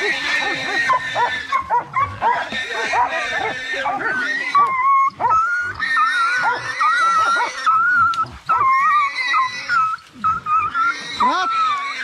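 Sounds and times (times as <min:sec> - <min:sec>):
dogs yelping and barking: 0:00.0 - 0:12.0
dog whining: 0:00.4 - 0:11.8.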